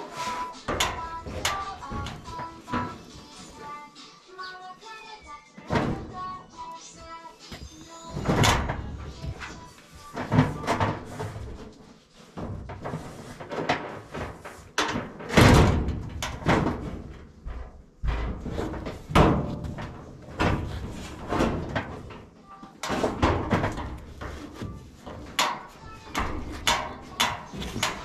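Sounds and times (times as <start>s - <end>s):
sheet metal knocks and clanks: 0.4s - 3.5s, 7.5s - 11.7s, 12.3s - 22.2s, 22.8s - 28.0s.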